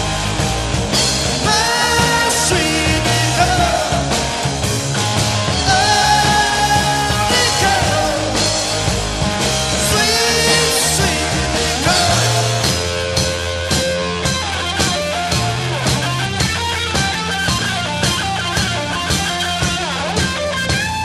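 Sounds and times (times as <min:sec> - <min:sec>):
bass: 0:00.0 - 0:21.0
drum beat: 0:00.0 - 0:21.0
electric guitar: 0:00.0 - 0:21.0
rock song: 0:00.0 - 0:21.0.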